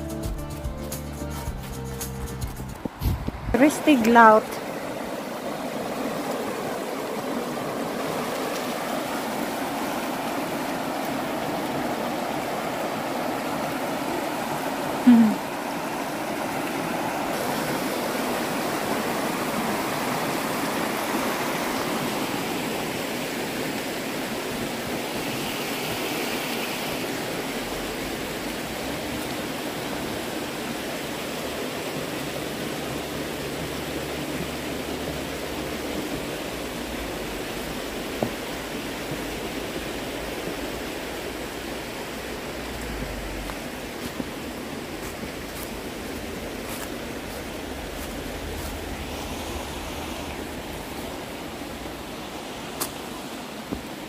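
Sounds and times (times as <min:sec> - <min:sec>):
stream rushing over rocks: 0:02.5 - 0:54.0.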